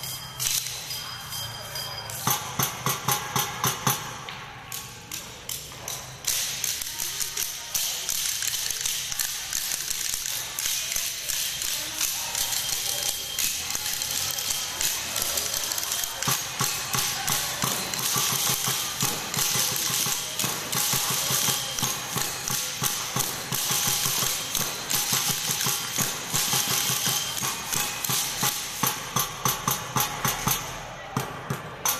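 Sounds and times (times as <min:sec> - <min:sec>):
wooden sticks clacking: 0:02.1 - 0:31.9.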